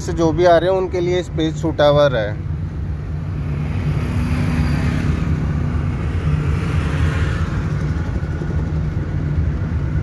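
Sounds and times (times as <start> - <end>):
car engine drone: 0.0 - 10.0
road rumble: 0.0 - 10.0.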